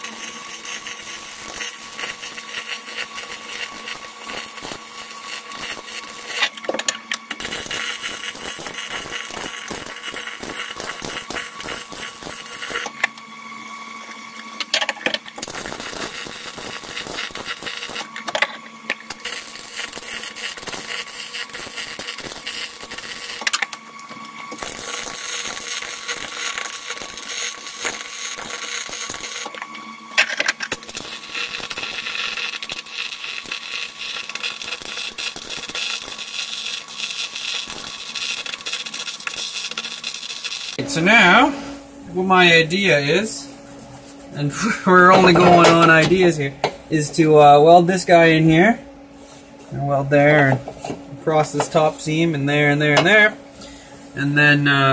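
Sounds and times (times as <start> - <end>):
welding arc crackling: 0.0 - 13.1, 14.6 - 23.8, 24.5 - 29.7, 30.6 - 43.5, 44.3 - 48.8.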